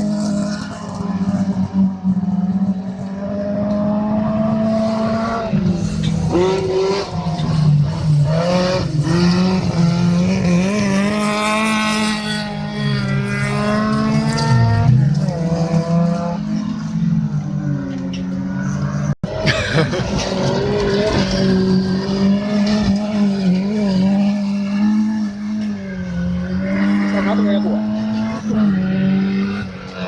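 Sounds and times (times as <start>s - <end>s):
race car engines at full throttle: 0.0s - 30.0s.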